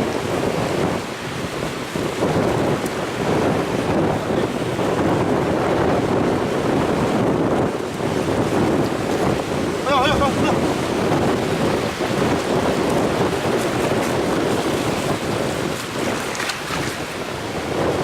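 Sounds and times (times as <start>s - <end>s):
surf washing: 0.0s - 18.0s
wind buffeting microphone: 0.0s - 18.0s.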